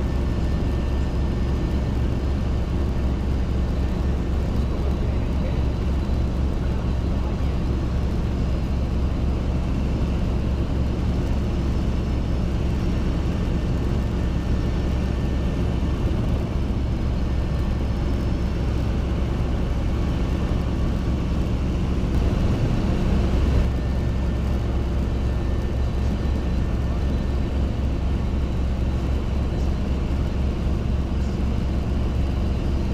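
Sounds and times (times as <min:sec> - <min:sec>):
helicopter engine and rotor drone: 0:00.0 - 0:32.9.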